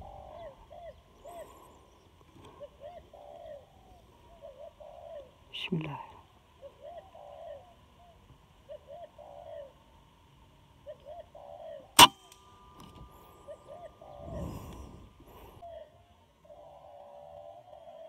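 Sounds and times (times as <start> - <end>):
dove cooing: 0.0 - 5.5, 6.2 - 9.8, 10.8 - 18.0.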